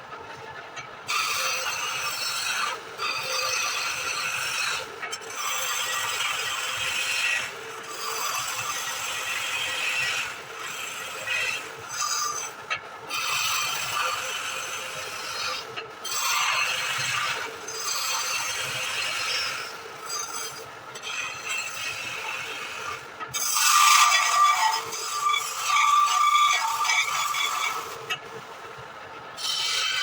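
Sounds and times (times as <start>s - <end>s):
tool cutting wood on a lathe: 0.2s - 30.0s.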